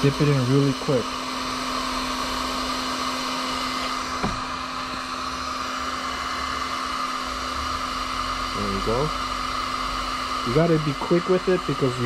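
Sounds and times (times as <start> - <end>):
heat gun fan blowing: 0.0 - 12.0.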